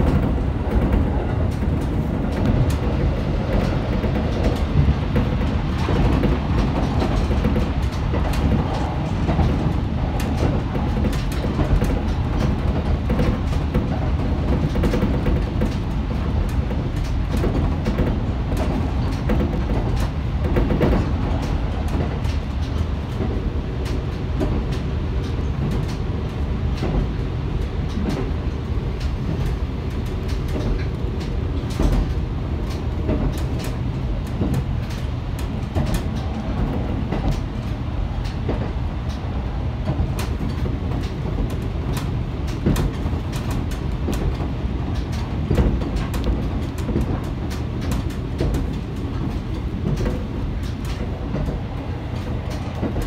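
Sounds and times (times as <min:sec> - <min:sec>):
railcar interior rumble: 0:00.0 - 0:53.0
wheels clicking on rails: 0:00.0 - 0:53.0.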